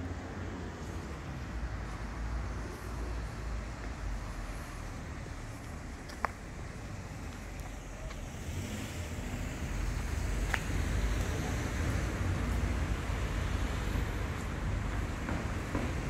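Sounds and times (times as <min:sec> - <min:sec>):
low street ambience rumble: 0:00.0 - 0:16.0.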